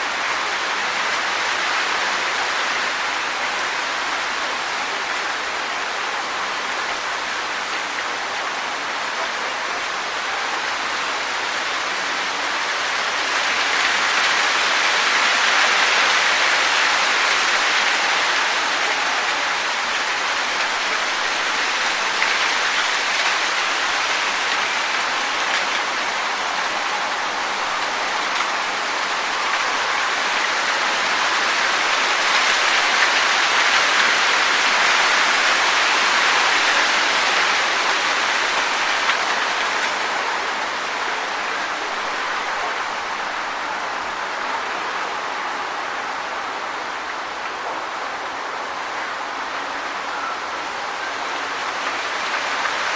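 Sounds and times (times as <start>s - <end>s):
wind rustling leaves: 0.0s - 52.9s.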